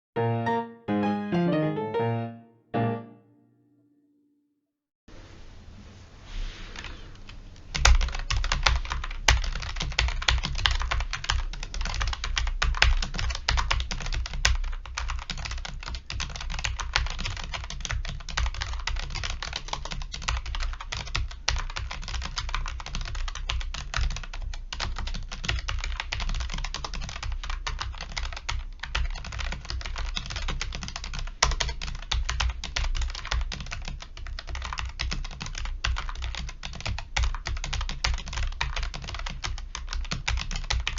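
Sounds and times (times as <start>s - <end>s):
fast keyboard typing: 7.7s - 40.9s.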